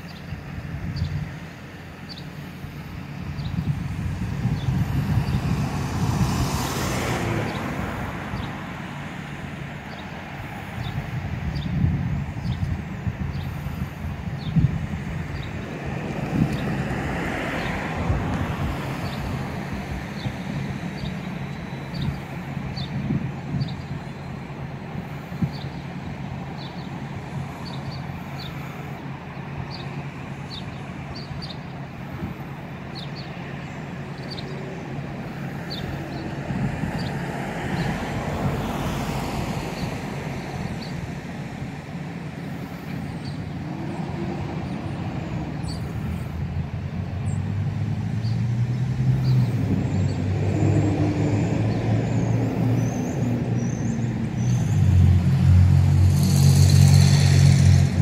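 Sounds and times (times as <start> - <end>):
car passing: 0.0 - 58.0
loud vehicle engine: 0.0 - 58.0
road traffic hum: 0.0 - 58.0.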